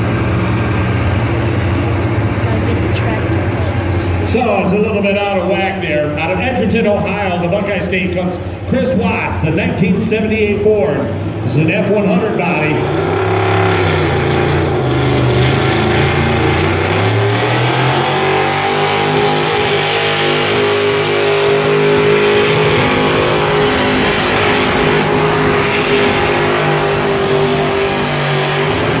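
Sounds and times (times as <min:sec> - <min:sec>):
truck engine at full throttle: 0:00.0 - 0:29.0.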